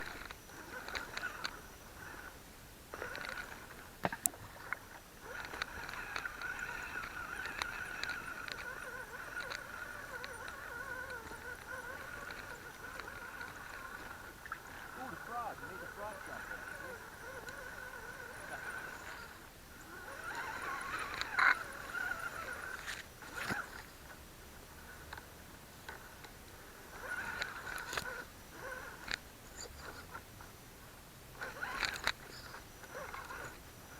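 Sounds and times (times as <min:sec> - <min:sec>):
electric motor whining: 0:00.0 - 0:25.2, 0:25.8 - 0:30.5, 0:31.4 - 0:33.9.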